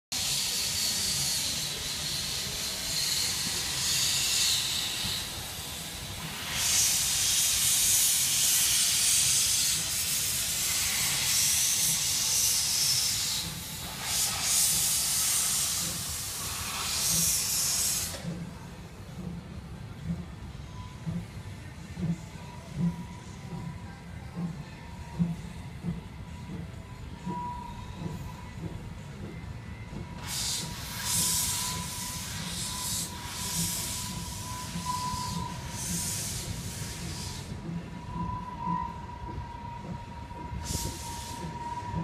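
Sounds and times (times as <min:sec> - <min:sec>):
steam locomotive hissing steam: 0:00.1 - 0:42.0.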